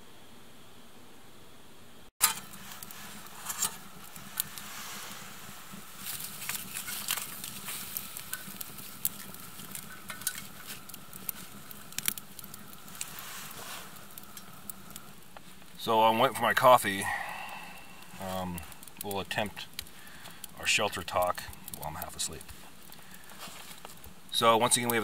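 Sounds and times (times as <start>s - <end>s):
faint steady hiss: 0.0s - 25.0s
wood fire crackling and popping: 2.2s - 25.0s.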